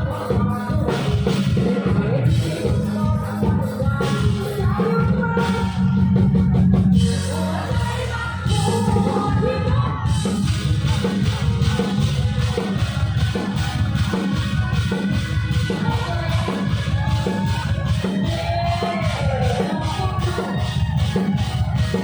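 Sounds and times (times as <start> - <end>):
live band music: 0.0 - 22.0
steady drum beat: 0.0 - 22.0
woman singing: 0.0 - 22.0.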